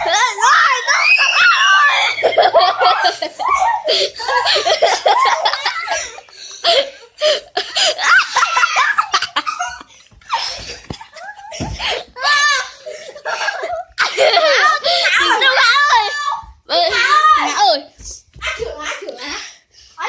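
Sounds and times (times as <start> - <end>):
children laughing and shrieking: 0.0 - 17.8.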